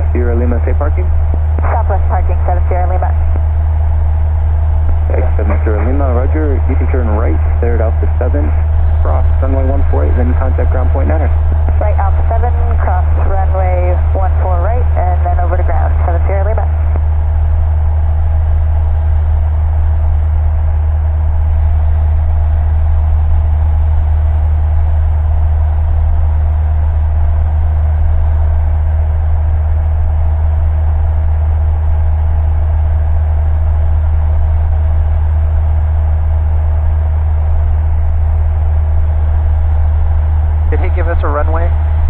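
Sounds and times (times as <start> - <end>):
light aircraft engine drone: 0.0 - 42.0.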